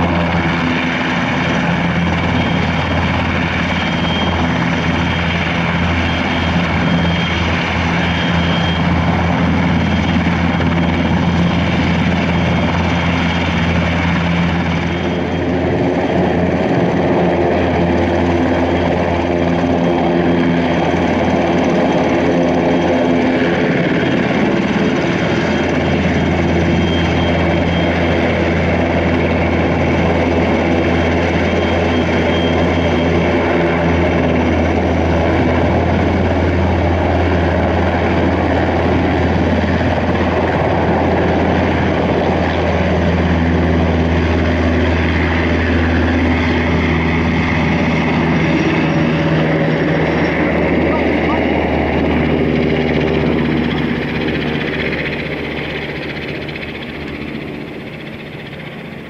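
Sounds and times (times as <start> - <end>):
helicopter engine whine: 0.0 - 59.0
helicopter rotor drone: 0.0 - 59.0.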